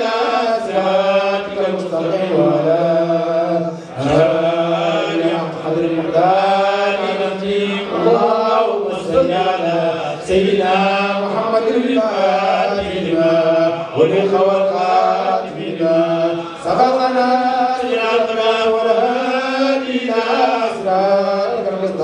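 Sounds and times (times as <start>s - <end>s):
melodic devotional chanting: 0.0s - 22.0s.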